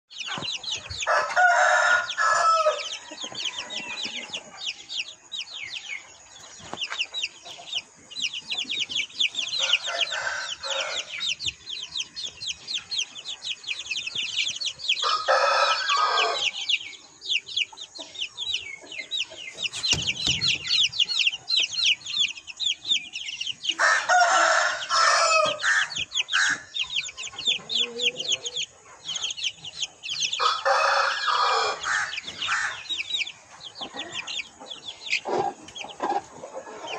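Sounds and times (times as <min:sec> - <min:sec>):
chicks peeping: 0:00.1 - 0:36.9.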